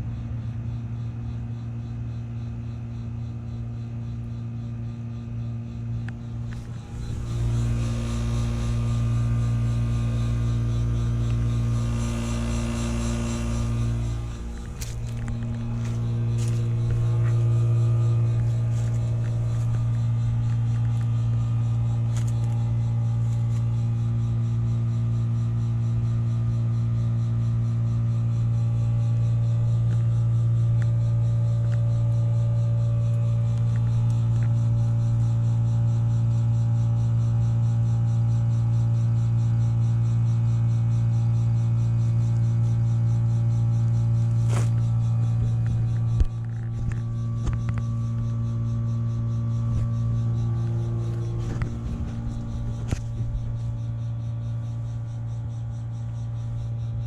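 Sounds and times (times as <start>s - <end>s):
heat pump humming: 1.7s - 57.0s.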